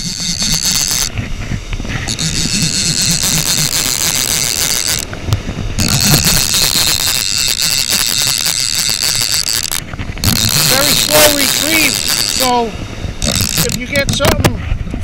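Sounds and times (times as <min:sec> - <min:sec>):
fishing reel clicker buzzing: 0:00.0 - 0:01.1, 0:01.9 - 0:14.4
surf: 0:00.0 - 0:15.0
wind rumble: 0:00.0 - 0:15.0.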